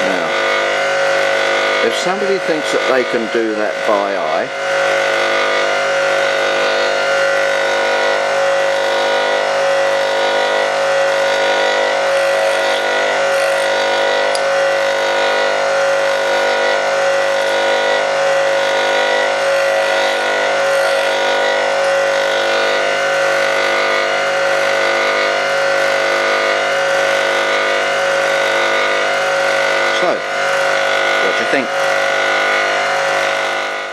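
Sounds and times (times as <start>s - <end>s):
bench grinder motor whine: 0.0s - 33.9s.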